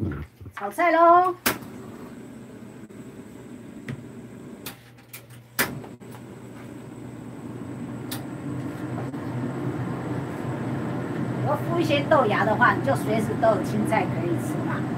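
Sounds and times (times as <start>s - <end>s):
gas stove burner rushing: 1.4s - 14.9s.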